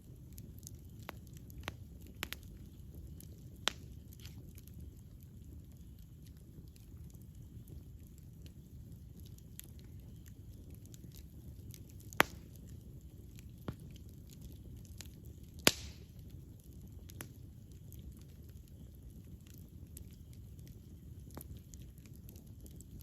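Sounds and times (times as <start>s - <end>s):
fire crackling: 0.0s - 23.0s
low rumble of flame: 0.0s - 23.0s
loud sharp pops of fire: 0.3s - 8.6s, 9.2s - 23.0s.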